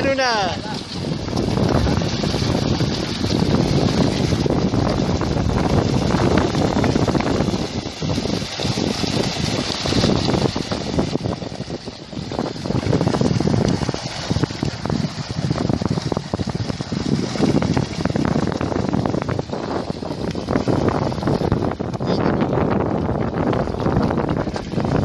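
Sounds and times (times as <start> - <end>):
fish thrashing and splashing: 0.0 - 21.9, 23.2 - 25.0
wind on microphone: 0.0 - 25.0.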